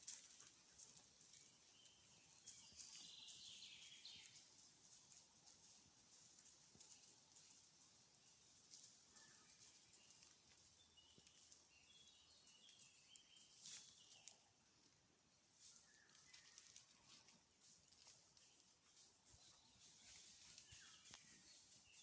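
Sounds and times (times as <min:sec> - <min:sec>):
faint birdsong chirps: 0:00.0 - 0:22.0
faint crackling ticks and rustles: 0:00.0 - 0:22.0.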